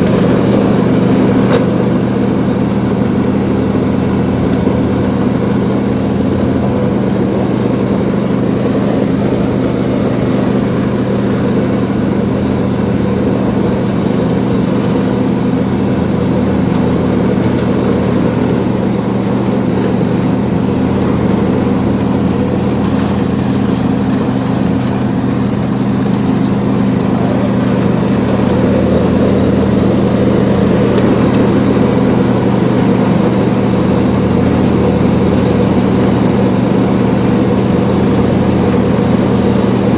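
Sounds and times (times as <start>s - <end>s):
riding lawn mower engine: 0.0s - 39.9s.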